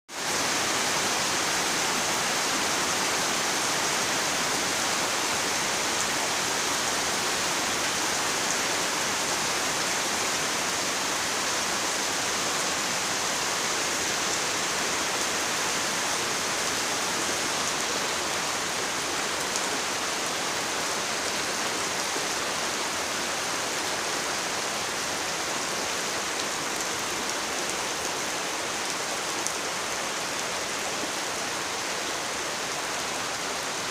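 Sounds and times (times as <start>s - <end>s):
heavy rain: 0.1s - 33.9s
rushing floodwater: 0.1s - 33.9s.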